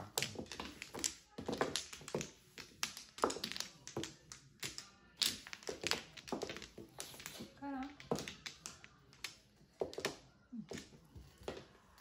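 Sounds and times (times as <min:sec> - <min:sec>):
mahjong tiles clicking on table: 0:00.0 - 0:11.6.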